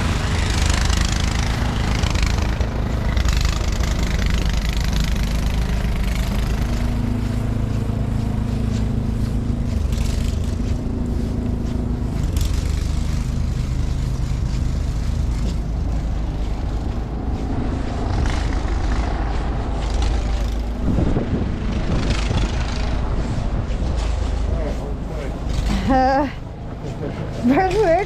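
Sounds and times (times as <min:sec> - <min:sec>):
low rumble of vehicle traffic: 0:00.0 - 0:28.0.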